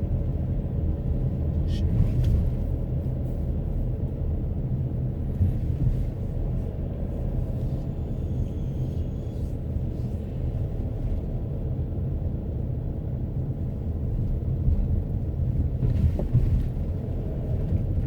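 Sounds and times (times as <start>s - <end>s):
car interior engine and tyre rumble: 0.0s - 18.0s.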